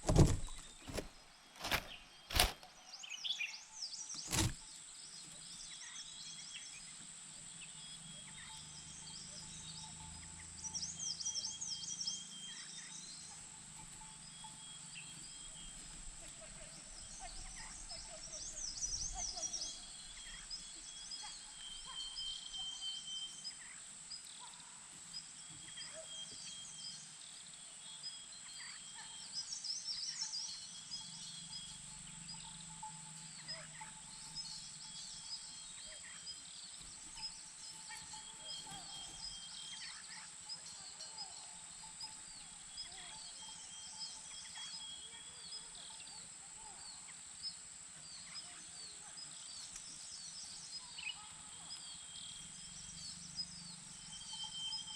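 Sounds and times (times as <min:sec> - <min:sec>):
faint held bird call notes: 0:00.0 - 0:47.2
birds chirping: 0:00.0 - 0:54.9.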